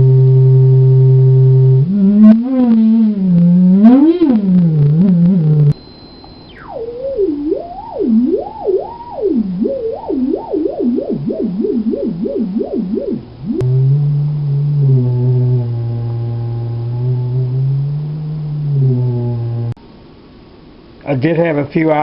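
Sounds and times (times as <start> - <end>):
theremin warbling tone: 0.0 - 19.8.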